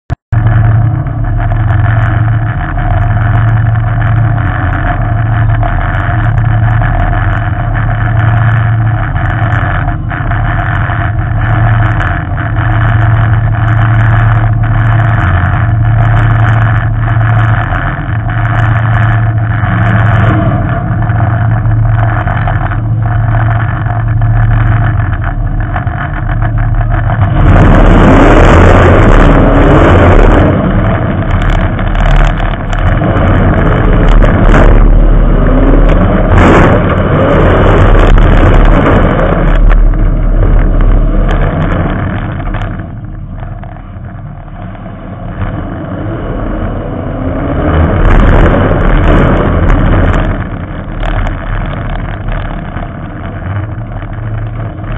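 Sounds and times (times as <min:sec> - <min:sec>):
race car engine idling and revving: 0:00.0 - 0:54.9.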